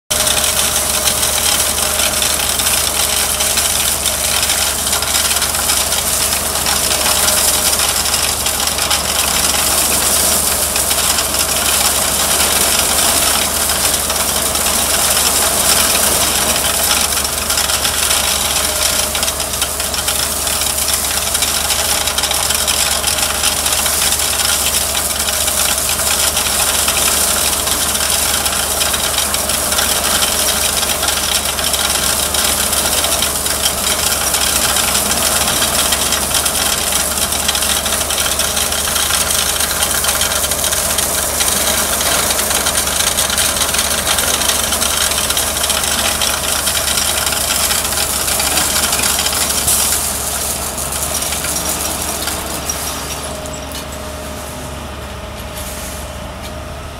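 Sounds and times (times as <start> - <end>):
rock rattling along conveyor belt: 0.1 - 55.6
truck engine running: 0.1 - 56.9.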